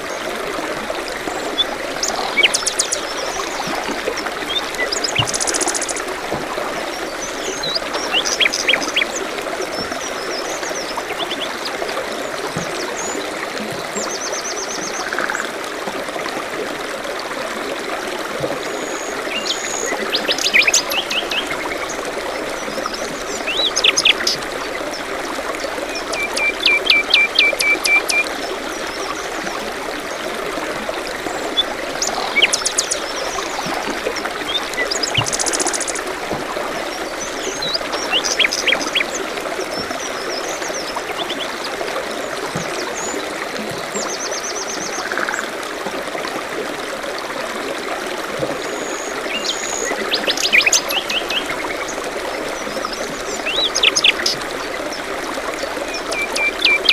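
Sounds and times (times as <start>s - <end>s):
forest stream rushing: 0.0s - 56.9s.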